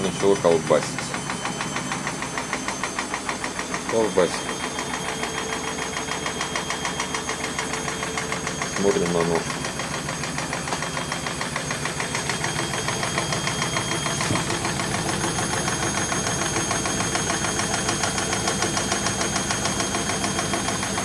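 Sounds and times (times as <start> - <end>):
washing machine spin rattle: 0.0 - 21.0.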